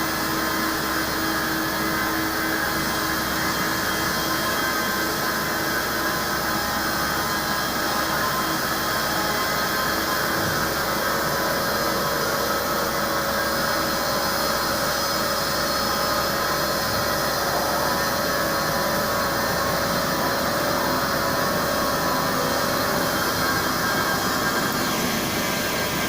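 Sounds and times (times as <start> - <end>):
milling machine whine: 0.0 - 26.0.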